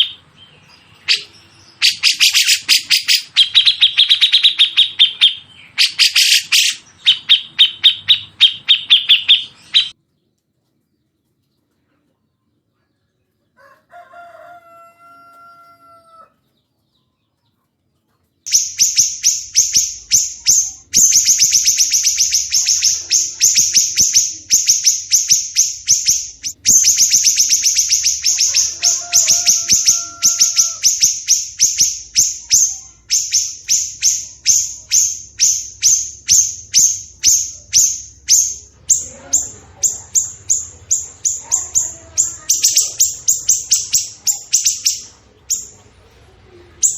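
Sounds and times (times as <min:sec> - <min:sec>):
high-pitched bird chirps: 0:00.0 - 0:10.0, 0:18.5 - 0:45.9, 0:46.7 - 0:46.9.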